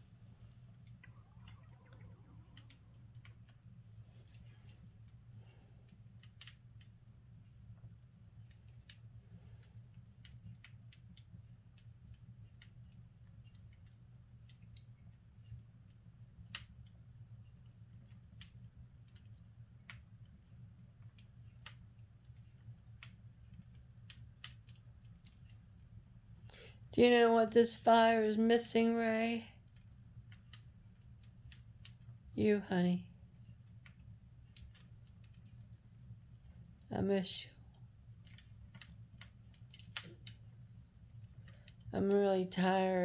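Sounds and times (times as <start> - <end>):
steady low hum: 0.0 - 43.0
wood fire crackling: 0.0 - 43.0.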